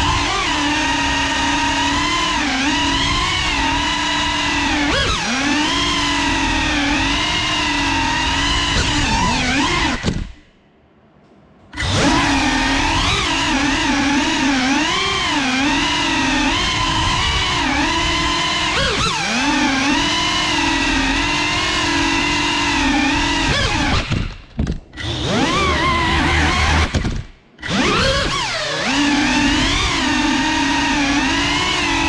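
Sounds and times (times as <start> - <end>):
drone motors whining: 0.0 - 10.6, 11.7 - 32.0.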